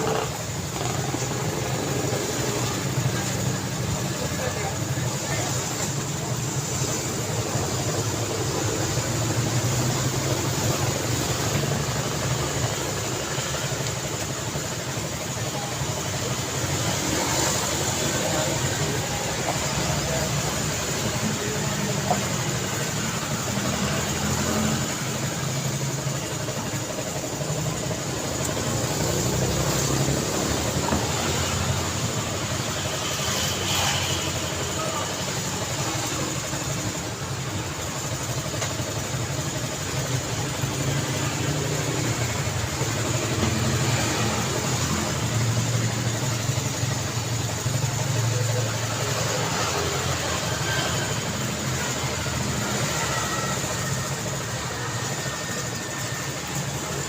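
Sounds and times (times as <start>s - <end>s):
car engines running: 0.0s - 57.0s.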